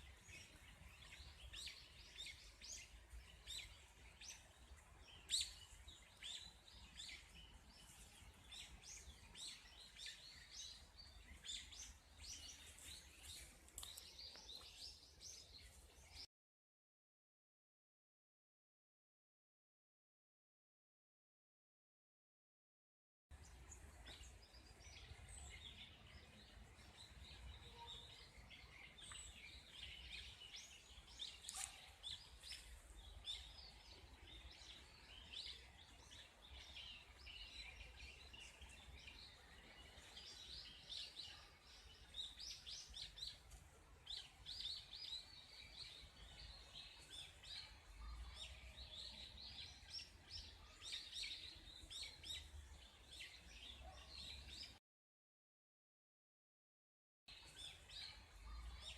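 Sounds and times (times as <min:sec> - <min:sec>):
small songbirds chirping: 0:00.0 - 0:16.3, 0:23.3 - 0:54.8, 0:57.3 - 0:58.9.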